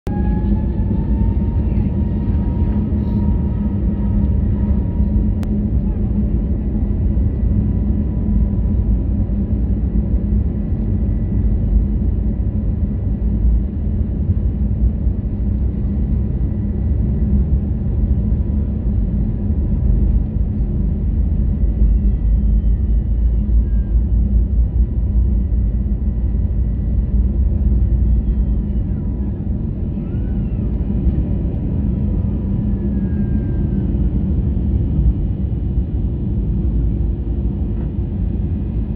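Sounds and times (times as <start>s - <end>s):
airliner engines rumbling in cabin: 0.0s - 38.9s.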